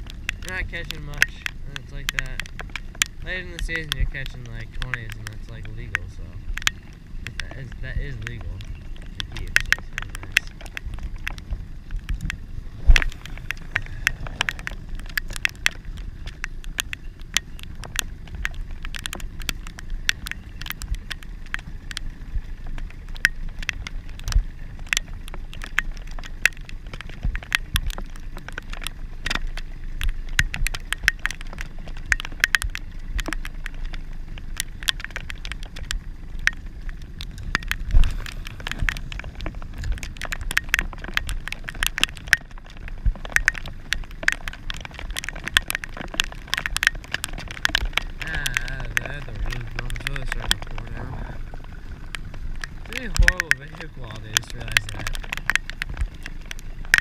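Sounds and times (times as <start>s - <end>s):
heavy rain ticking on camera: 0.0s - 57.0s
low rumble: 0.0s - 57.0s.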